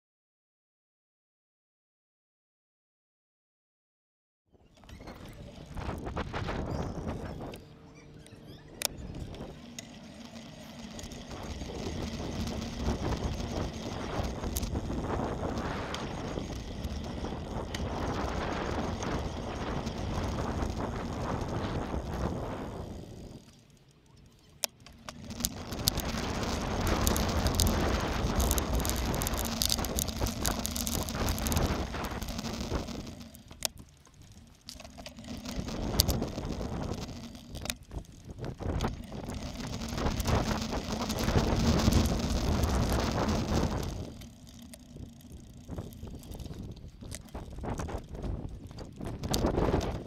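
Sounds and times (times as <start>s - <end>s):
bicycle tyre rumble: 4.6s - 50.0s
rattling with sharp clicks: 4.7s - 50.0s
wind on microphone: 4.9s - 23.5s, 25.1s - 33.8s, 34.9s - 50.0s.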